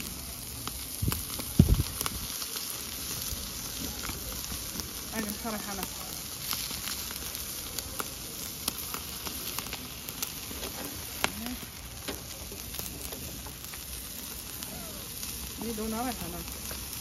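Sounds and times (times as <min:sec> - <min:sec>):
chicken sizzling on grill: 0:00.0 - 0:17.0
pops and crackles: 0:00.0 - 0:17.0.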